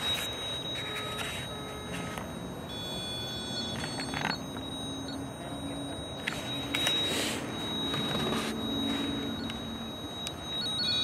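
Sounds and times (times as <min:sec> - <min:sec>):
high-pitched electronic alarm tone: 0:00.0 - 0:11.0.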